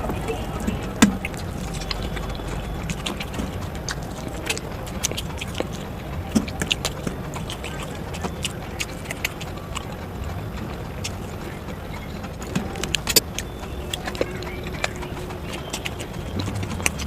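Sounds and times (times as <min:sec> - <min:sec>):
chewing crunches and clicks: 0:00.0 - 0:17.0
low background rumble: 0:00.0 - 0:17.0.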